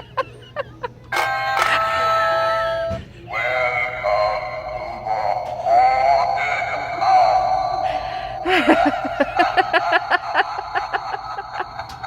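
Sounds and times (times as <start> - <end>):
spooky doorbell wavering tone: 1.1 - 11.0.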